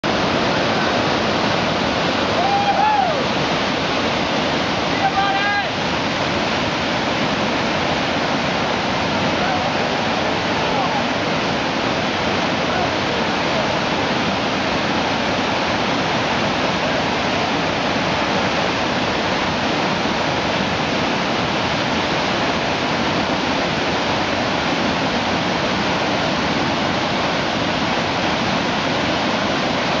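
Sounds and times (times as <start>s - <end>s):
whitewater rapids rushing: 0.0s - 30.0s.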